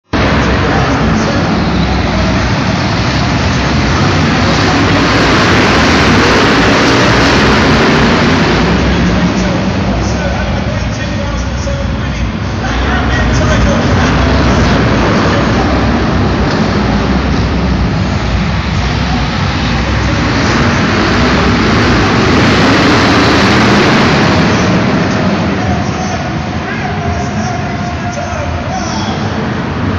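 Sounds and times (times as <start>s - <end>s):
racing car engines in hall: 0.0s - 29.9s.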